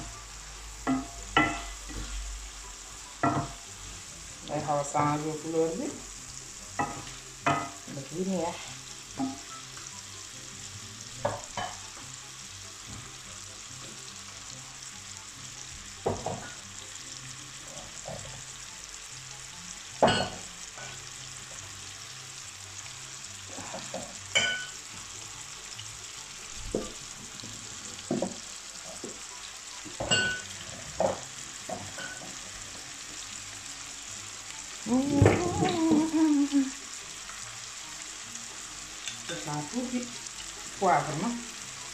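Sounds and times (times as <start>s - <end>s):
chicken sizzling in pan: 0.0s - 41.9s.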